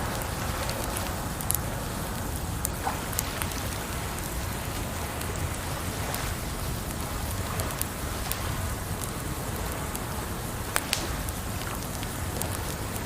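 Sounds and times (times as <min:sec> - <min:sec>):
campfire crackling and popping: 0:00.0 - 0:13.0
running water: 0:00.0 - 0:13.0.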